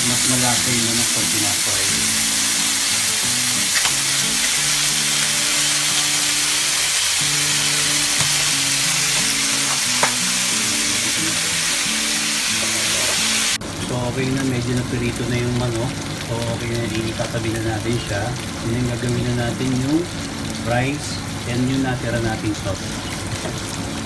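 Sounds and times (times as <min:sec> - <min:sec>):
chicken frying in hot oil: 0:00.0 - 0:24.0
soft background music: 0:00.0 - 0:24.0.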